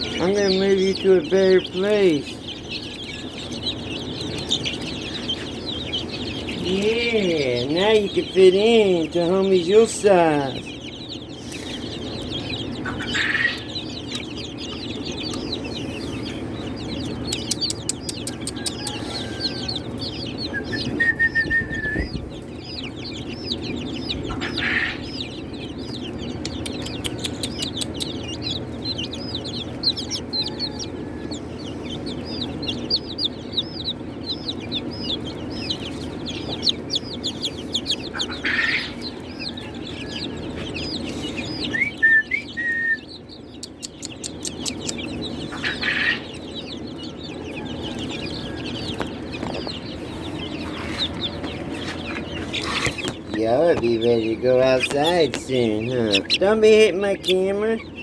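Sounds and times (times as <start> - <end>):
chicks peeping: 0.0 - 58.0
steady low hum: 0.0 - 58.0.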